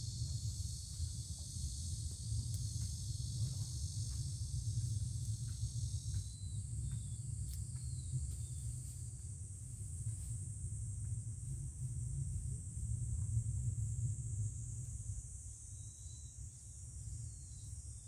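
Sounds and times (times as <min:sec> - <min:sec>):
steady low rumble: 0:00.0 - 0:15.6
insects chirping: 0:00.0 - 0:18.0.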